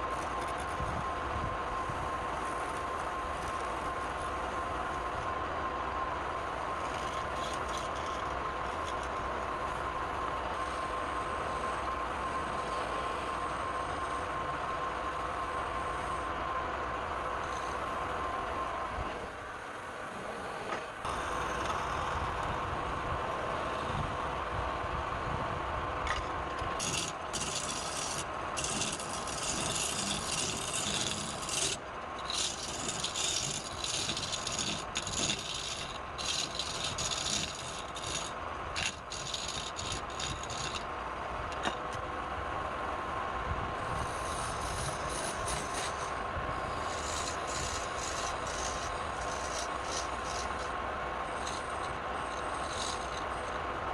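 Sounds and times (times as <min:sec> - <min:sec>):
tool scraping spinning wood: 0:00.0 - 0:05.3, 0:05.9 - 0:19.4, 0:20.1 - 0:22.6, 0:26.0 - 0:42.1, 0:43.8 - 0:53.9
wood lathe humming: 0:01.8 - 0:22.2, 0:26.1 - 0:41.8, 0:43.8 - 0:53.9.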